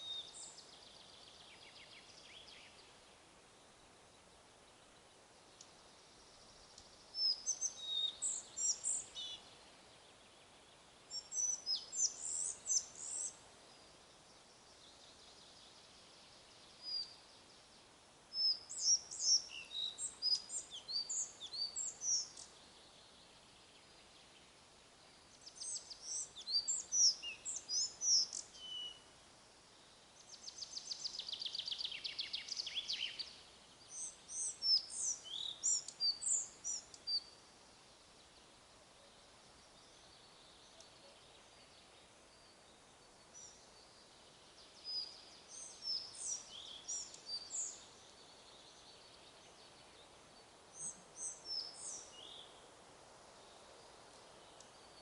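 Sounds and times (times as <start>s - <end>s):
faint wind hiss: 0.0s - 55.0s
songbirds singing: 0.0s - 55.0s.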